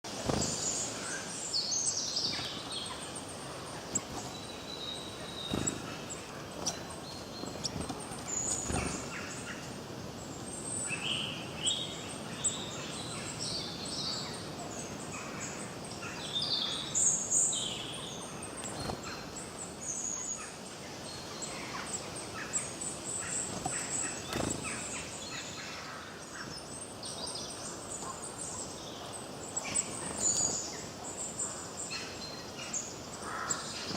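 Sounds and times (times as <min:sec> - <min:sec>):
background hiss: 0:00.0 - 0:33.9
birds chirping and trilling: 0:00.0 - 0:33.9.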